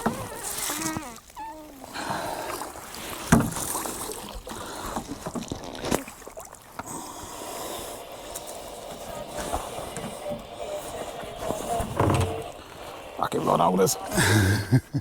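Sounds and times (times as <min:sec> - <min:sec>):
knocks and clicks on boat: 0:00.0 - 0:01.3, 0:02.0 - 0:13.5
water noise: 0:00.0 - 0:15.0
wind: 0:00.0 - 0:15.0.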